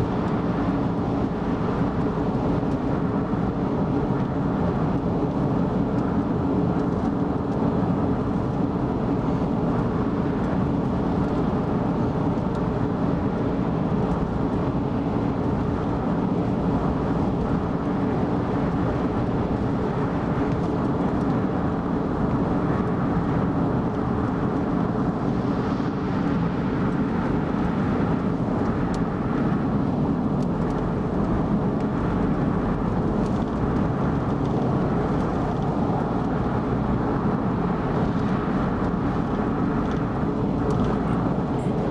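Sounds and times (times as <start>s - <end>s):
car driving at speed: 0.0s - 41.9s.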